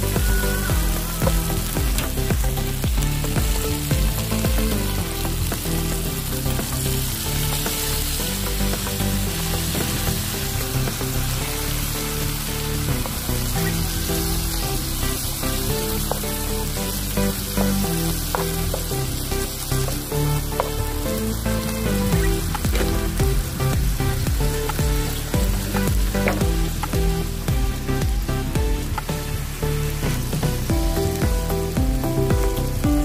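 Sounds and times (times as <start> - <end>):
background music: 0.0 - 33.0
food sizzling in hot oil: 0.0 - 33.0.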